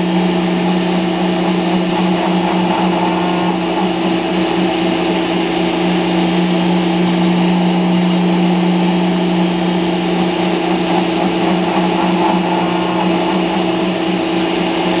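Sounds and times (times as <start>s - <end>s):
router spindle humming: 0.0s - 15.0s.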